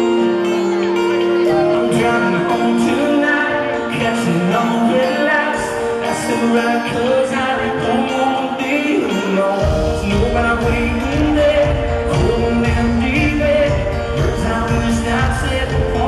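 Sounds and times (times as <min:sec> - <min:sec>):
live rock band: 0:00.0 - 0:16.0
man singing lead: 0:00.0 - 0:16.0.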